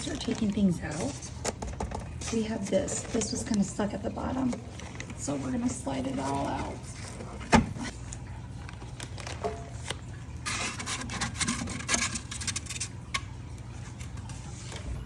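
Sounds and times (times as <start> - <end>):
scraping and rustling packaging: 0.0 - 15.0.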